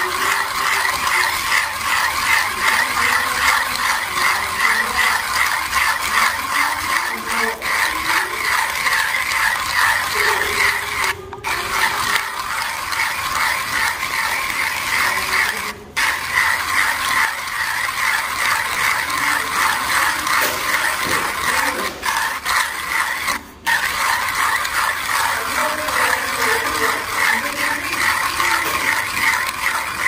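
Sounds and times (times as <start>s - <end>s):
hand coffee grinder rattling: 0.0s - 30.0s.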